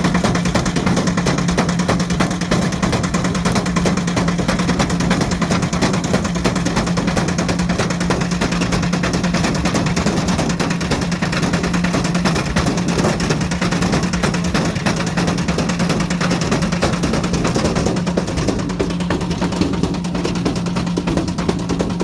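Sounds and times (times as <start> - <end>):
brick knocking in drum: 0.0 - 22.0
washing machine motor hum: 0.0 - 22.0.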